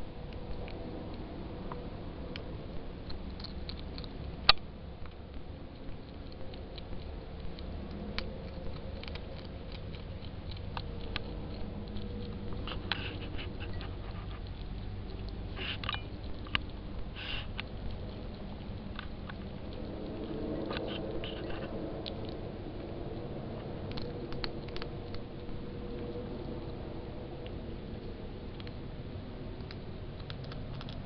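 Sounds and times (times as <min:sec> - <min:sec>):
hedgehog chewing: 0:00.0 - 0:31.0.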